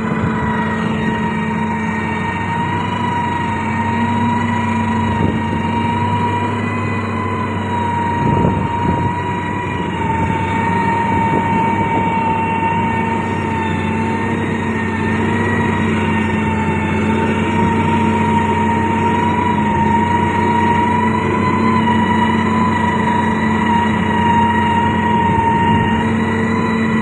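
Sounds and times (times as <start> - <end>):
diesel engine under load: 0.0 - 27.0
high whine: 0.0 - 27.0.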